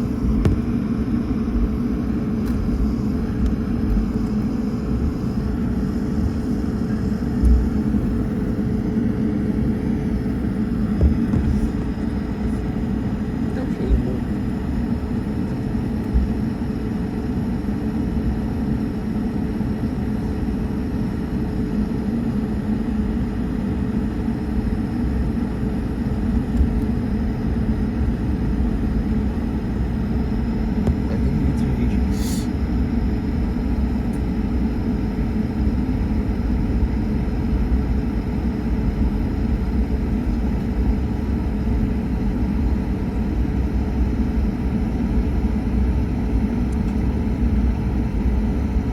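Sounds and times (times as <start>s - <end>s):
jet engines low rumble: 0.0s - 48.9s
steady hum: 0.0s - 48.9s.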